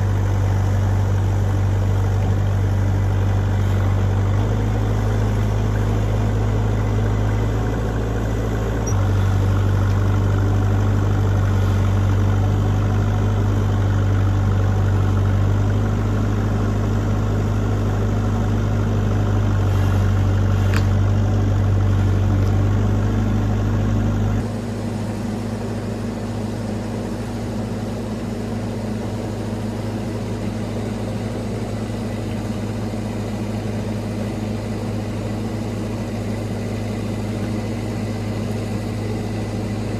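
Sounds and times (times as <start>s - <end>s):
mini excavator diesel engine: 0.0s - 39.9s.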